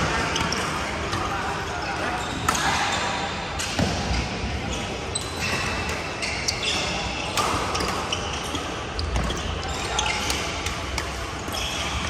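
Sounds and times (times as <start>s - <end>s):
shoes squeaking on court floor: 0.0s - 3.8s, 4.5s - 12.0s.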